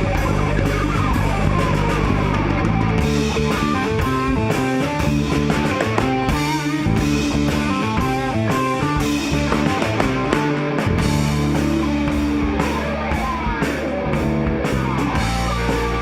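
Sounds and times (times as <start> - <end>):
electric guitar fast notes: 0.0 - 16.0
rock band playing live: 0.0 - 16.0.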